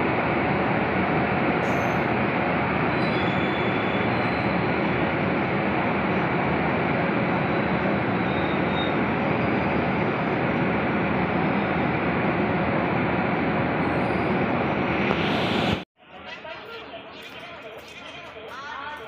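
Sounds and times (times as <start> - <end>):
train wheels running on rails: 0.0 - 15.8.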